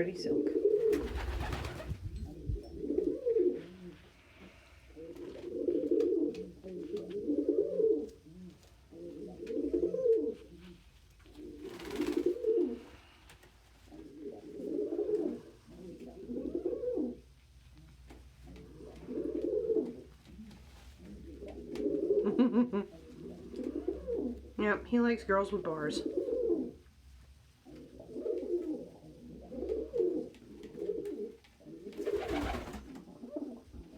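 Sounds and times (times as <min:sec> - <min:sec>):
pigeon cooing: 0:00.0 - 0:13.2, 0:13.8 - 0:24.6, 0:26.0 - 0:26.8, 0:27.6 - 0:33.9.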